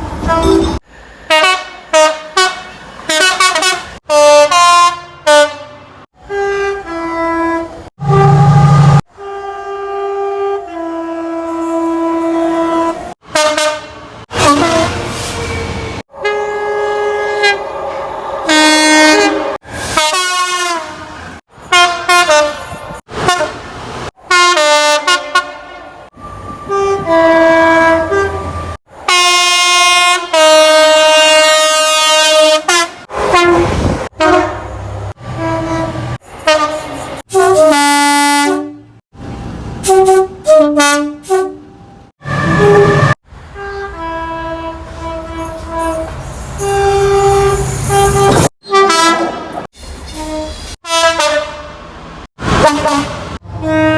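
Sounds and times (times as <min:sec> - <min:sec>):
two-tone train horns: 0:00.1 - 0:15.1, 0:16.0 - 0:39.0, 0:39.8 - 0:53.9.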